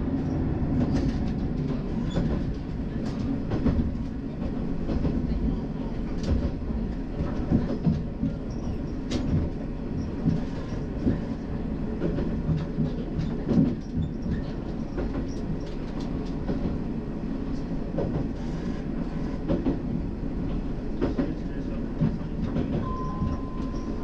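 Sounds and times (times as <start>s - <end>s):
railcar running noise: 0.0s - 24.0s.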